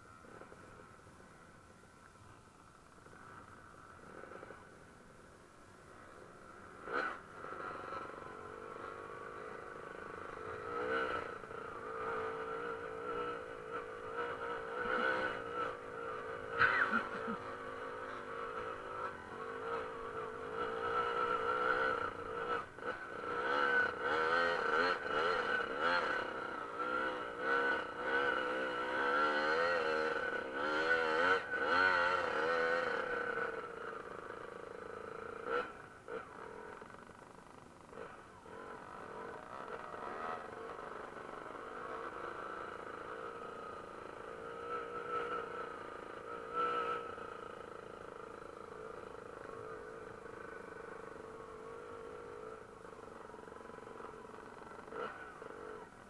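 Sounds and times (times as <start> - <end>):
dirt bike engine revving: 6.6 - 36.9, 37.9 - 55.9.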